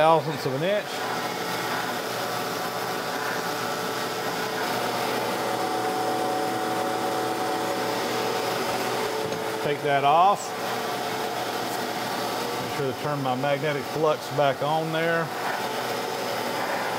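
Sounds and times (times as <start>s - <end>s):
grinder humming: 0.0s - 16.9s.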